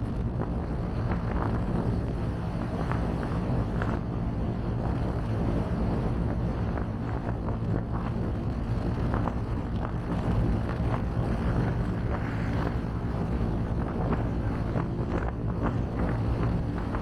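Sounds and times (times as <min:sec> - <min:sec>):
car engine and tyre rumble: 0:00.0 - 0:17.0
wind noise: 0:00.0 - 0:17.0.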